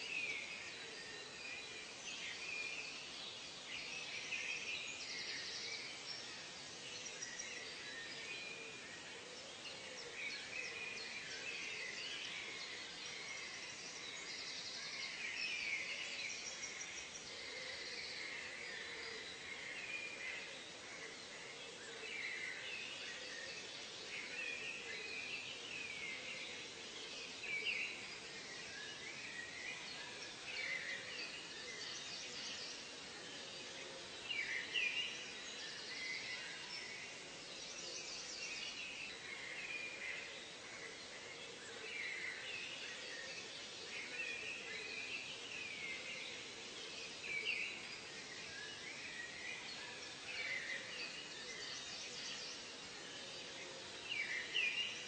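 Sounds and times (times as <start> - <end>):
background hiss: 0.0 - 55.0.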